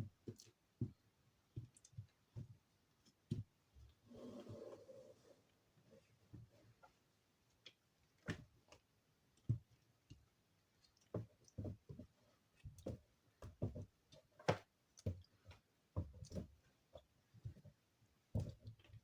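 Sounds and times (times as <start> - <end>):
hands squishing damp soap: 0.0 - 4.0, 6.3 - 19.0.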